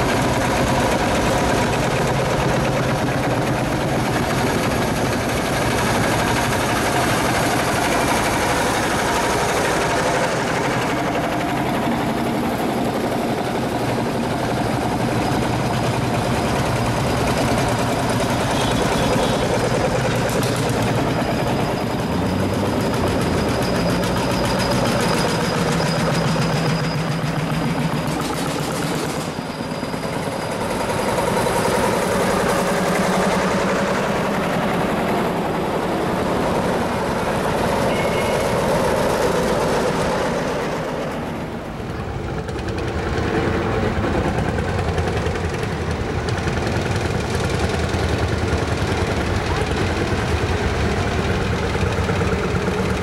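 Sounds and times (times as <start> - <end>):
tractor engines chugging past: 0.0 - 53.0.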